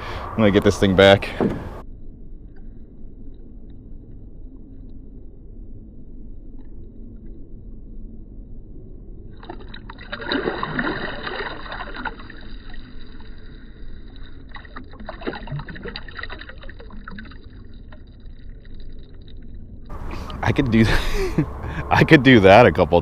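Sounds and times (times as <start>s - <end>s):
water splashing and sloshing: 0.1s - 1.8s, 2.6s - 21.7s.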